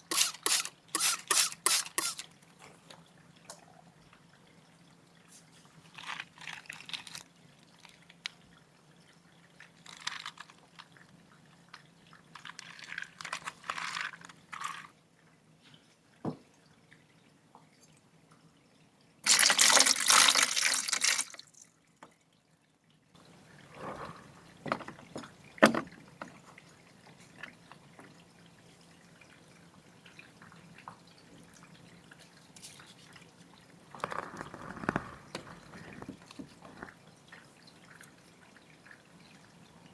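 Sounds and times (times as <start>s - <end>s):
water pouring and dripping: 0.0s - 39.9s.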